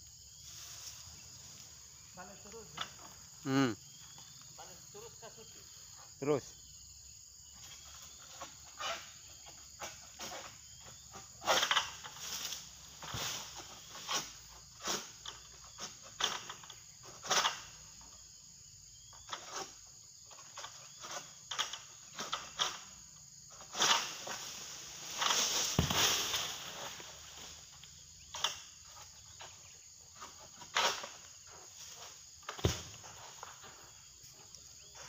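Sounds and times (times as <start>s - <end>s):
high insect drone: 0.0s - 35.0s
sickle scraping and rustling: 0.4s - 5.3s, 7.6s - 18.1s, 19.1s - 35.0s.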